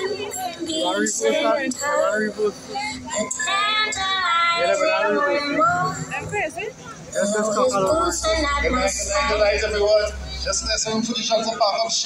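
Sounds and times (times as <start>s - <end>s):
song with singing voices: 0.0s - 12.0s.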